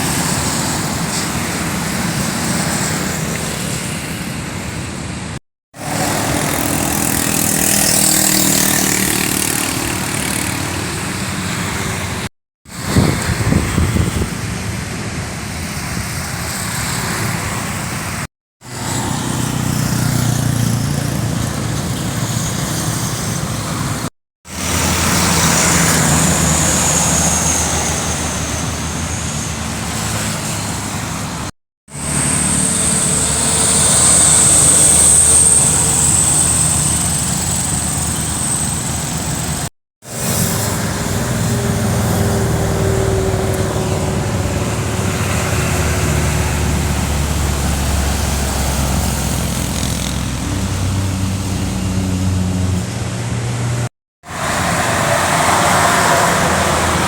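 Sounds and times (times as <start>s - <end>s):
diesel trucks climbing uphill: 0.0s - 57.0s.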